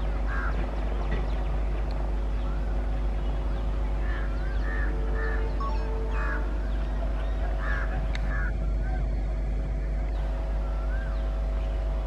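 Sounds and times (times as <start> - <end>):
birds chirping: 0.0 - 12.0
faint steady hum: 0.0 - 12.0
train coaches rumbling on track: 0.0 - 12.0.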